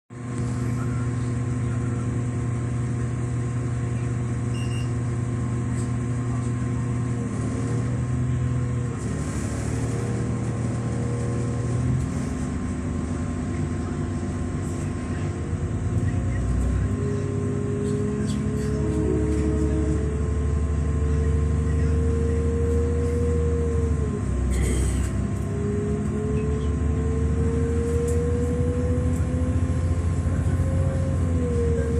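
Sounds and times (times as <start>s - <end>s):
diesel train engine drone: 0.1s - 31.9s.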